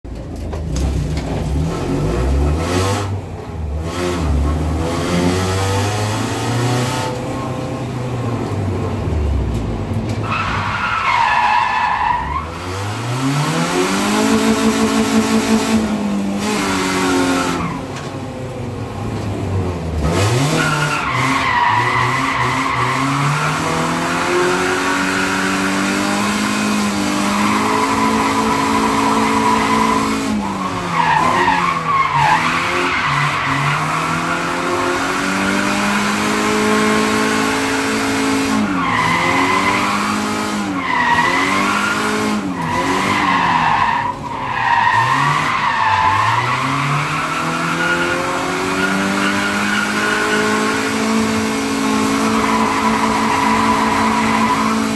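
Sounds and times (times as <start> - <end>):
car engine revving: 0.6 - 54.9.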